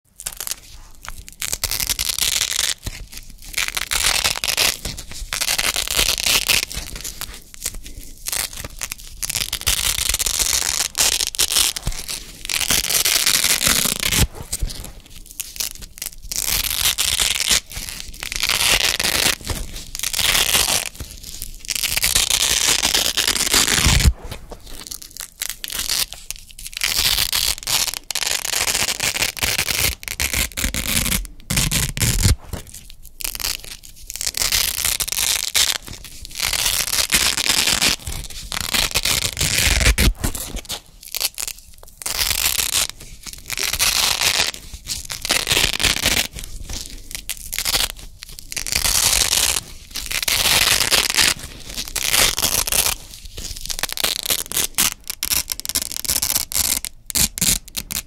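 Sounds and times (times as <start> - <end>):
velcro strips ripping apart: 0.2 - 58.0.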